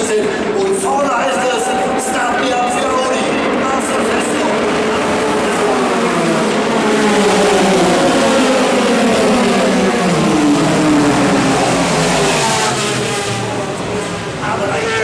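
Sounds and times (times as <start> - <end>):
race cars accelerating past: 0.0 - 15.0.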